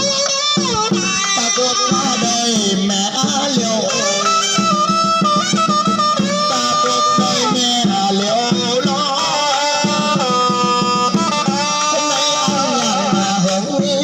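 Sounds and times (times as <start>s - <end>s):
drum beats: 0.0s - 14.0s
reedy wind instrument melody: 0.0s - 14.0s.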